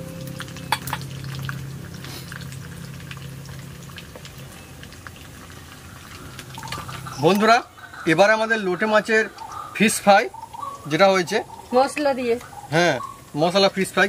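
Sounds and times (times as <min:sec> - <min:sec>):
low steady hum: 0:00.0 - 0:13.3
fish sizzling in hot oil: 0:00.0 - 0:14.0
oil crackles and pops: 0:00.0 - 0:14.0.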